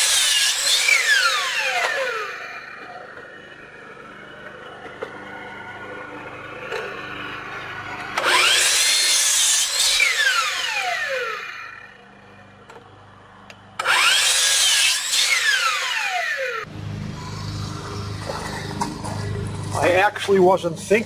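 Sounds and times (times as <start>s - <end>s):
miter saw cutting wood: 0.0s - 12.7s, 13.8s - 21.0s.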